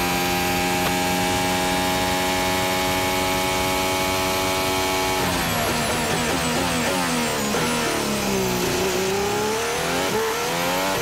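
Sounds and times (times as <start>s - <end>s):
racing car engine at full throttle: 0.0s - 11.0s
gearbox downshifts: 0.2s - 11.0s.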